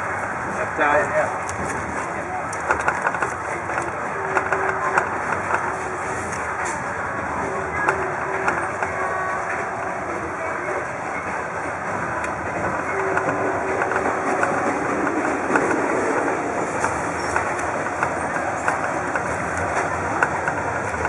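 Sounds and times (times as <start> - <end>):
train rushing noise: 0.0 - 21.0.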